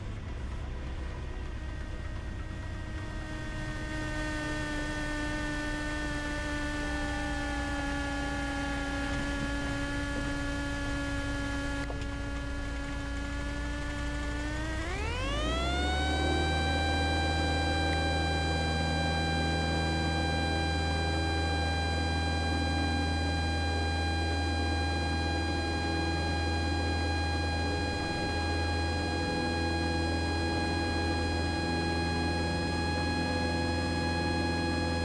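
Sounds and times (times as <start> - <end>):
alternator whine over intercom: 0.0 - 35.0
engine and propeller drone: 0.0 - 35.0.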